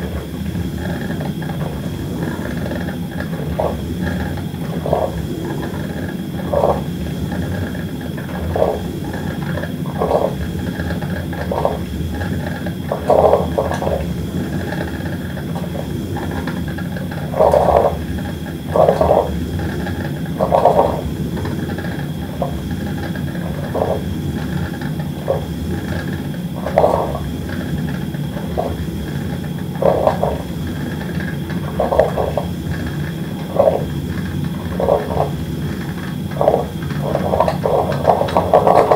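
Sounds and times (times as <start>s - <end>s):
coffee maker gurgling: 0.0s - 38.9s
coffee maker rumble: 0.0s - 38.9s.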